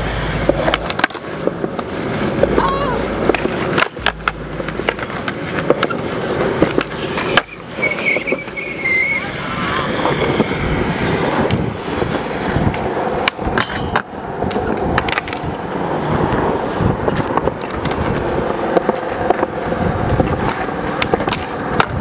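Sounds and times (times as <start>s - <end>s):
skateboard clacks: 0.0s - 22.0s
skateboard wheels rolling on concrete: 0.0s - 22.0s.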